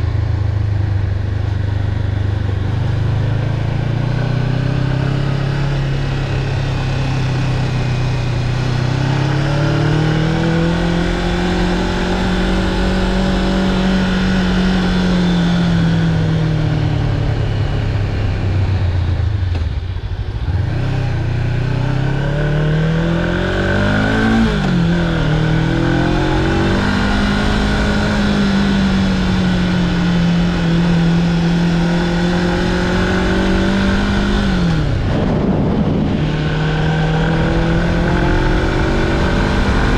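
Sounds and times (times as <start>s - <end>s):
motorcycle engine: 0.0s - 39.9s
wind noise: 0.8s - 21.0s, 22.9s - 39.9s.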